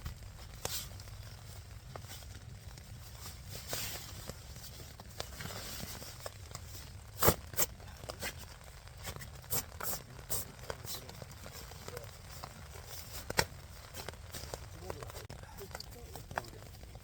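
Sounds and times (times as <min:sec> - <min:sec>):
gear rustling and crinkling: 0:00.0 - 0:17.0.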